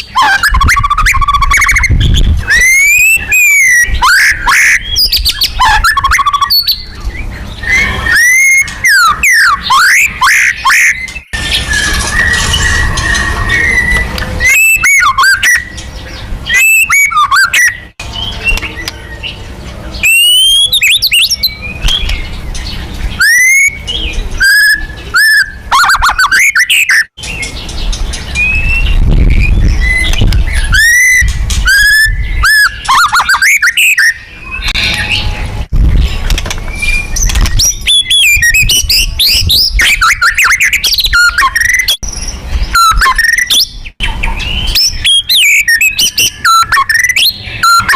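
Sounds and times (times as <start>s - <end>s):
bird singing whistled phrases: 0.1s - 19.4s, 20.0s - 22.4s, 23.1s - 27.6s, 28.2s - 35.4s, 36.7s - 47.9s.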